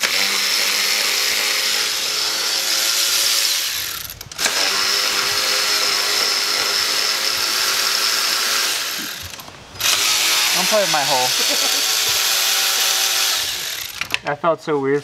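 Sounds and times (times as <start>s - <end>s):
power tool whining: 0.0s - 14.2s.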